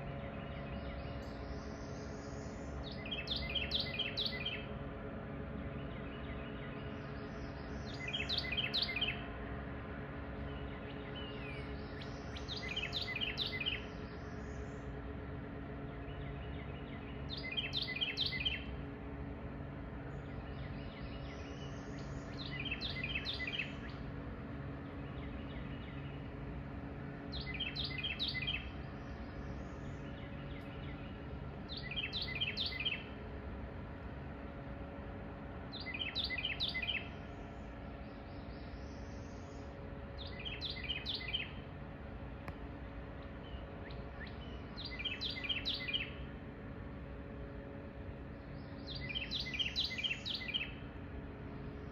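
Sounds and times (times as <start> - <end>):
low boat engine drone: 0.0 - 51.9
songbird singing: 0.0 - 51.9.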